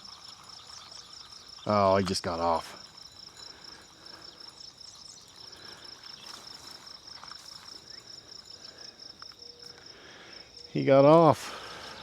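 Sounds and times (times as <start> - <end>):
crickets chirping: 0.0 - 12.0
faint outdoor background noise: 0.0 - 12.0.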